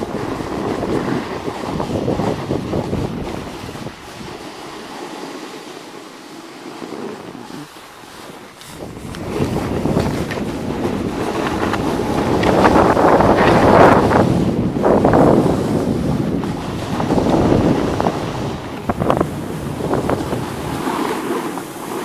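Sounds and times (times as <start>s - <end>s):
wind buffeting on microphone: 0.0s - 4.8s, 7.2s - 22.0s.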